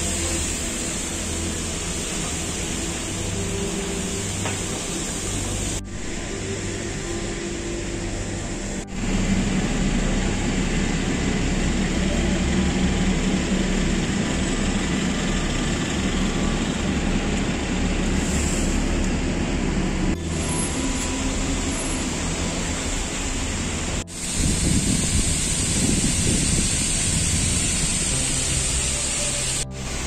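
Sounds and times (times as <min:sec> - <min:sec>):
low engine hum: 0:00.0 - 0:30.0
street traffic: 0:00.0 - 0:30.0.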